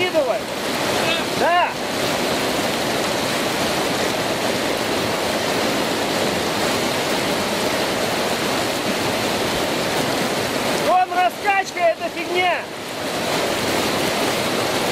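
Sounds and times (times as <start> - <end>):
whitewater rushing over rocks: 0.0 - 14.9.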